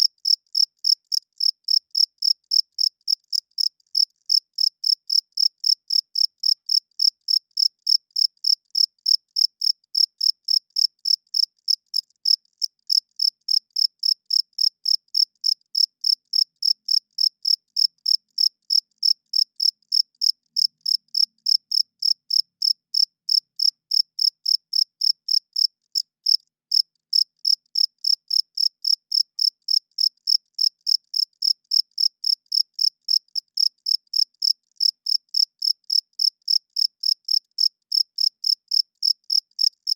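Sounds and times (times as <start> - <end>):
cricket chirping: 0.2 - 39.9.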